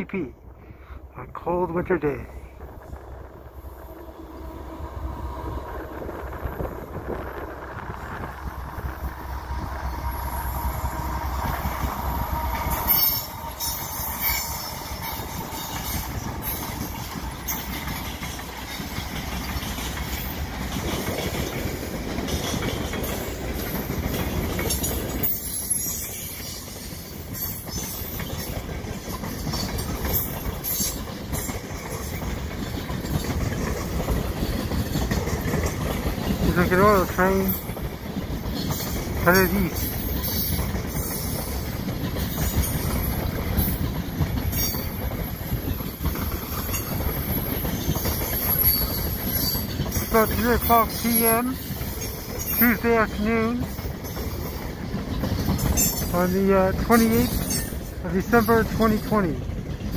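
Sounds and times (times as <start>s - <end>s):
diesel locomotives rumbling: 0.0s - 59.9s
wheels clicking over rail joints: 5.9s - 59.9s.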